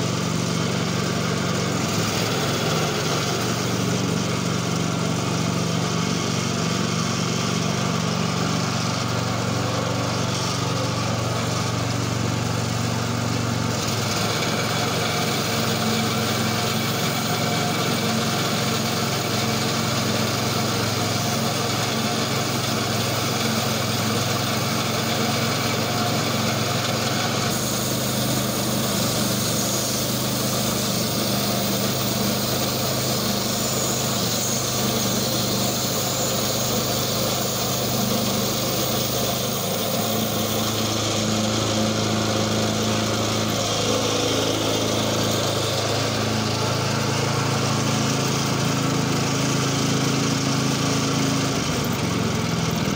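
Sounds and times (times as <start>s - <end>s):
band saw cutting log: 0.0s - 52.9s
gasoline engine running: 0.0s - 52.9s.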